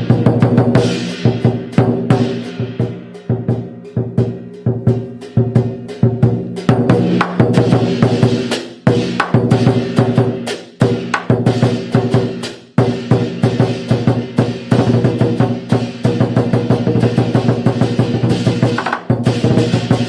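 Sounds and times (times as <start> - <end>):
drum beaten in fast strokes: 0.0 - 20.0.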